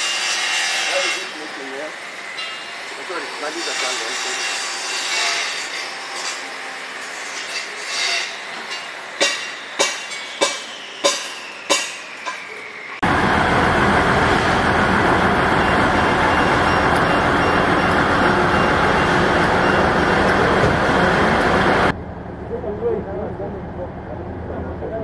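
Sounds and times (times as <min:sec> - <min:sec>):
loud steady train drone: 0:00.0 - 0:25.0.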